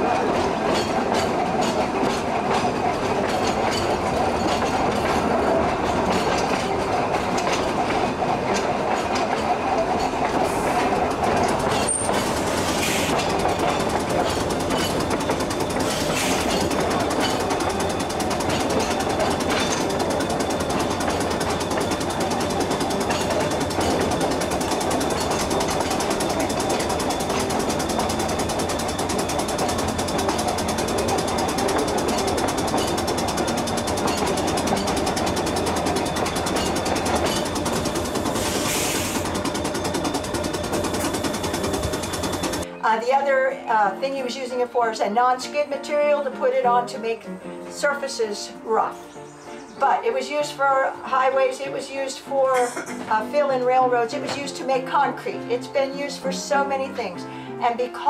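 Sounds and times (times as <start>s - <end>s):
trolley wheels rumbling on rails: 0.0s - 43.1s, 44.1s - 58.0s.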